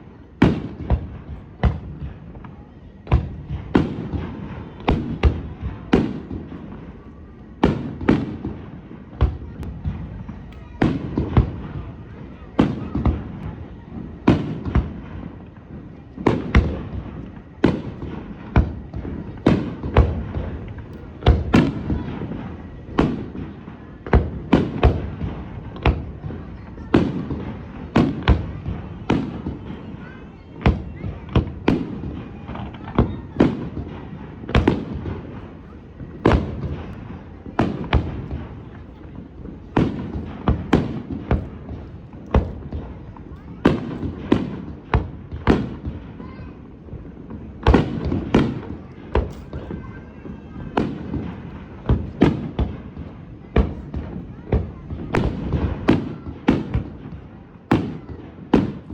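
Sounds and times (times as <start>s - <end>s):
fireworks booming with echo: 0.0s - 58.9s.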